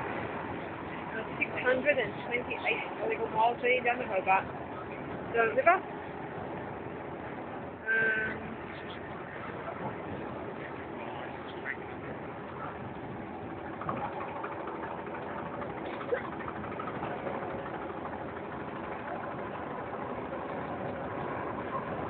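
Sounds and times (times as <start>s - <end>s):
distant engines droning: 0.0s - 22.0s.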